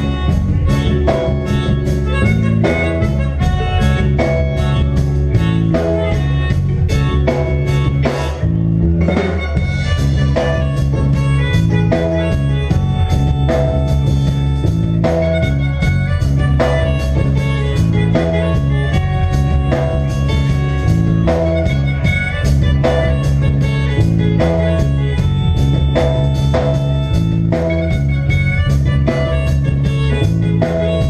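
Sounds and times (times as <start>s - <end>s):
bass line: 0.0s - 31.0s
drum kit: 0.0s - 31.0s
electric guitar: 0.0s - 31.0s.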